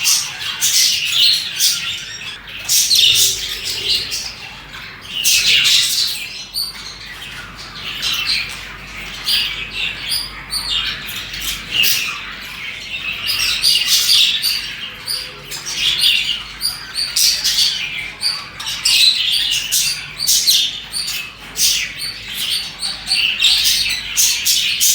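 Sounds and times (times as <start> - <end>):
budgerigars chirping and squawking: 0.0 - 24.9.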